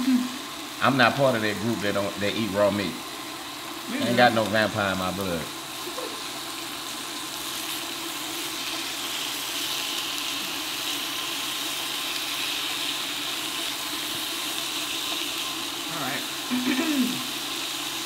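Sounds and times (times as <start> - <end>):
beef sizzling on grill: 0.0 - 18.0
broth boiling: 0.0 - 18.0.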